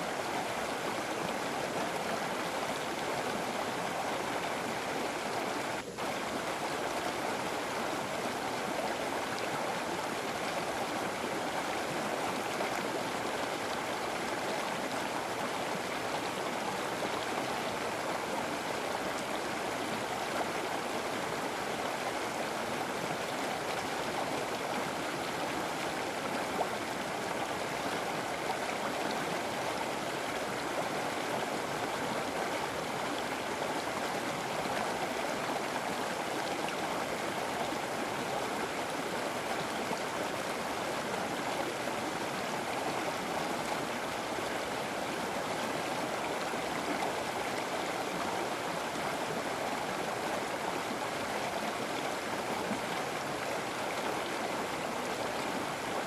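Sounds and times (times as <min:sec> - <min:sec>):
river flowing: 0:00.0 - 0:56.0.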